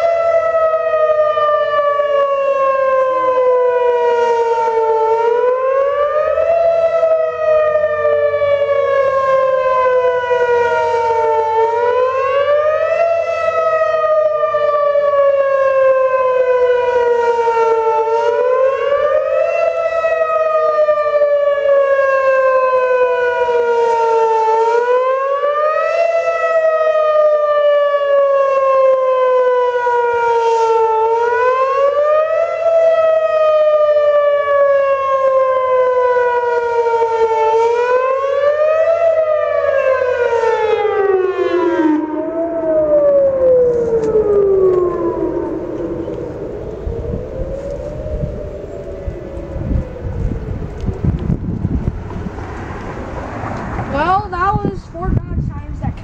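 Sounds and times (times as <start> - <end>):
faint distant sirens wailing: 0.0 - 56.0
warning siren wailing: 0.0 - 56.0.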